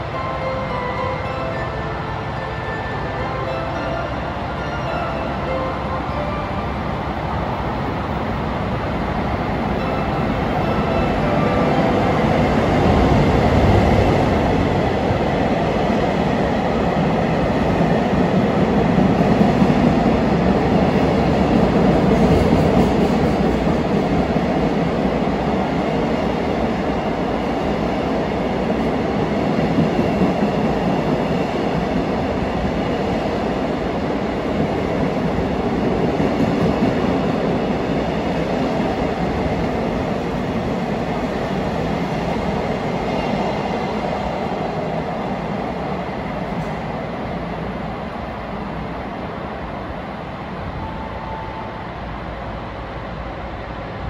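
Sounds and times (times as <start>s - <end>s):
diesel locomotive passing: 0.0s - 54.0s.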